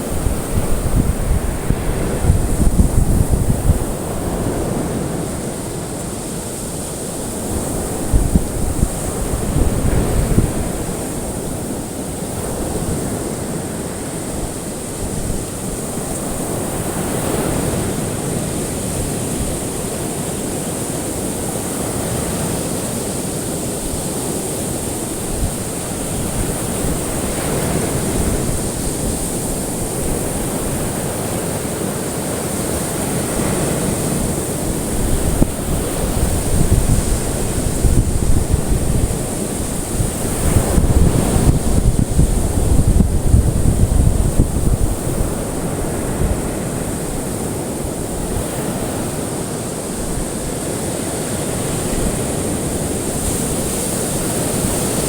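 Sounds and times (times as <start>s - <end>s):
ocean waves washing: 0.0s - 55.0s.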